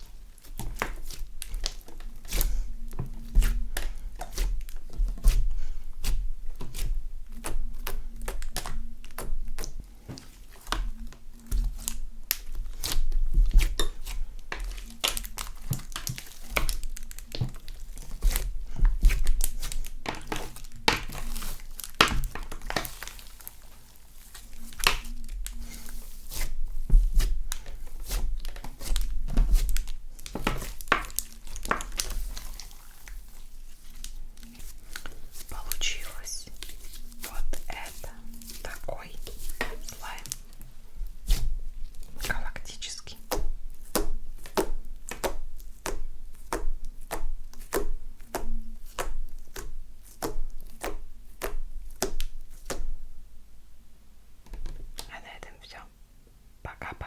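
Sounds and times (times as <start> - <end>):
slime squished by hand crackling: 6.0 - 40.6, 41.2 - 53.0.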